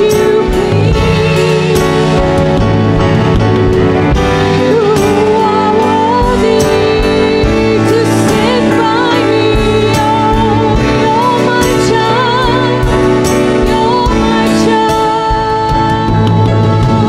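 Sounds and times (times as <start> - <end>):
woman singing with vibrato: 0.0 - 3.4, 4.2 - 17.0
sustained keyboard chords: 0.0 - 17.0.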